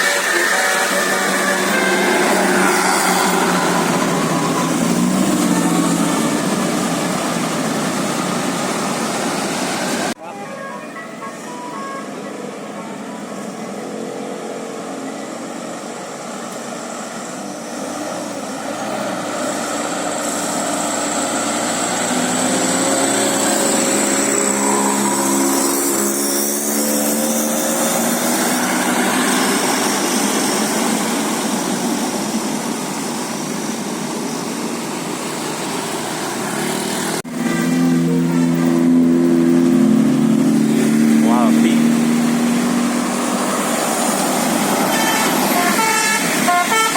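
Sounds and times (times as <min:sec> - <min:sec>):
bus driving past: 0:00.0 - 0:46.9.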